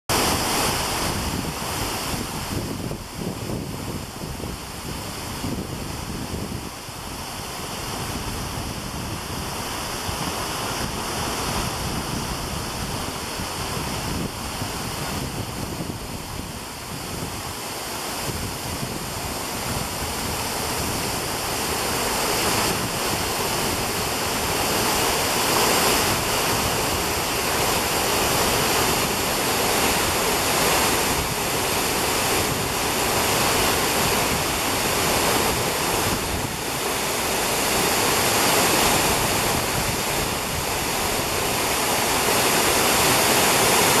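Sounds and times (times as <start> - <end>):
waterfall rushing: 0.1 - 44.0.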